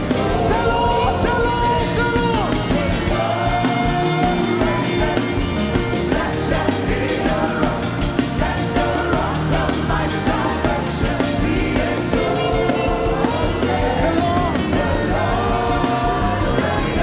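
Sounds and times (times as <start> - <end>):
held sliding melody line: 0.0 - 17.0
live worship band playing: 0.0 - 17.0.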